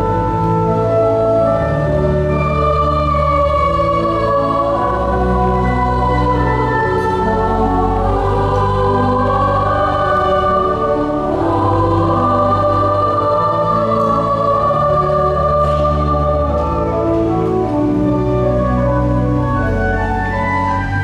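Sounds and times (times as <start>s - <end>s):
choir singing: 0.0s - 21.0s
pipe organ bass notes: 0.0s - 21.0s.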